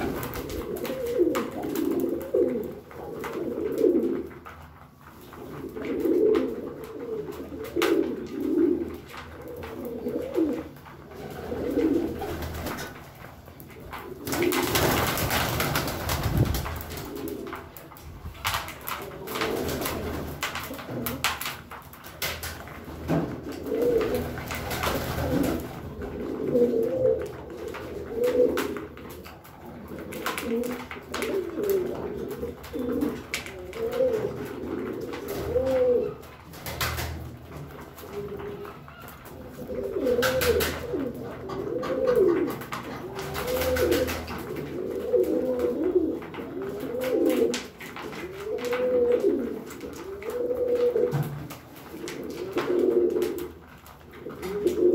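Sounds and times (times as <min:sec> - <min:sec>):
pigeons cooing: 0:00.0 - 0:21.6, 0:22.8 - 0:54.9.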